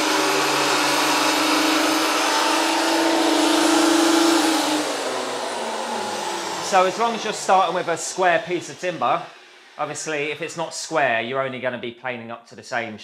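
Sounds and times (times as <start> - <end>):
planer motor running: 0.0 - 10.9
planer cutting wood: 0.0 - 11.0.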